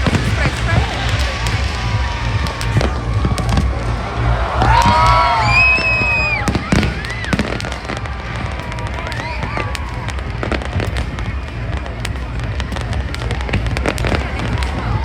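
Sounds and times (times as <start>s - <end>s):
fireworks bangs and crackles: 0.0s - 15.0s
fireworks whistling: 0.0s - 15.0s.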